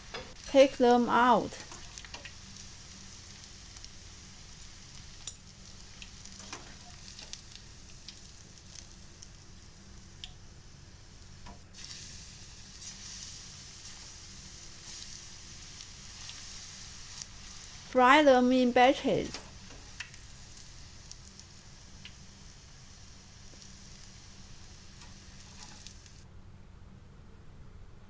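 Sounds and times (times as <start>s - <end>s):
eggplant sizzling in deep-frying oil: 0.0s - 26.2s
light clicks in frying oil: 1.5s - 10.5s, 11.2s - 18.0s, 19.2s - 26.2s.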